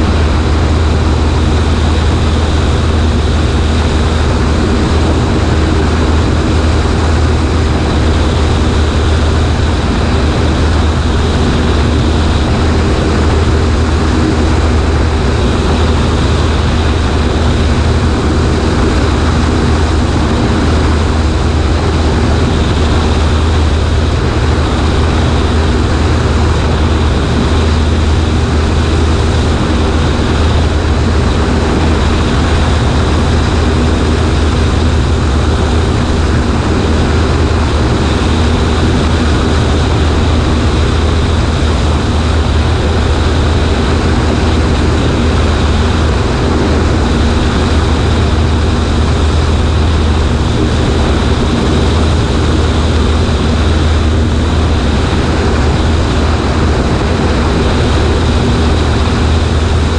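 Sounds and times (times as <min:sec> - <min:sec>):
propeller plane engine running: 0:00.0 - 0:59.9
rushing air: 0:00.0 - 0:59.9.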